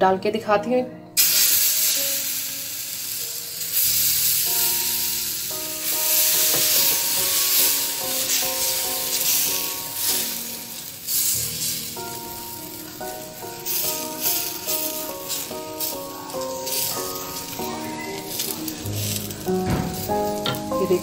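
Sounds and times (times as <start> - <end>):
background music: 0.0 - 21.0
batter sizzling on griddle: 1.2 - 21.0.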